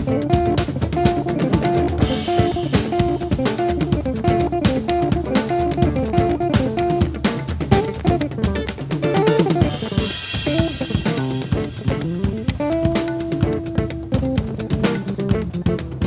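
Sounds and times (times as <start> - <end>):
bass guitar: 0.0 - 16.0
drum kit steady beat: 0.0 - 16.0
plucked guitar riff: 0.0 - 16.0.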